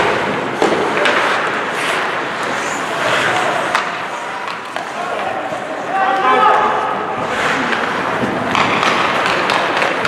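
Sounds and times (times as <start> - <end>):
stick and puck clacks: 0.0 - 5.6, 7.3 - 10.0
skate blades scraping ice: 0.2 - 5.9, 7.2 - 10.0.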